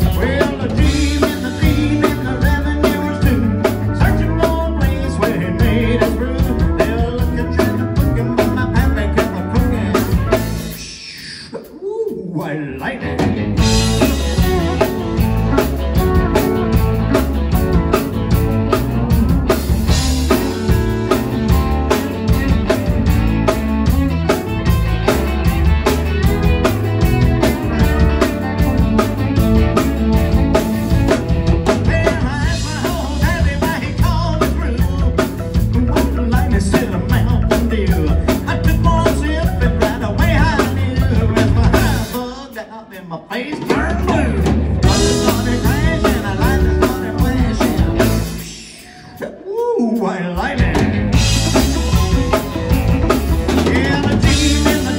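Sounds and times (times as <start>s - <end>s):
country rock band playing: 0.0s - 54.9s.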